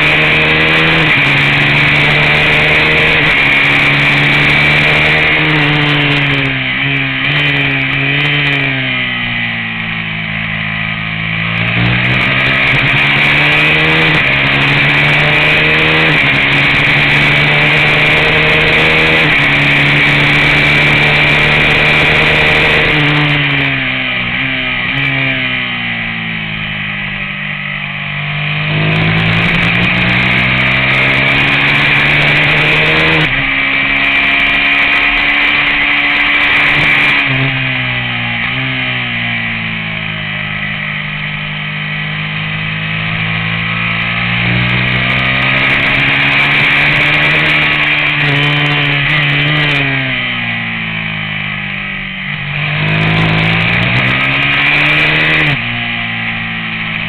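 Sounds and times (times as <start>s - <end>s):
race motorcycle engine revving: 0.0s - 57.0s.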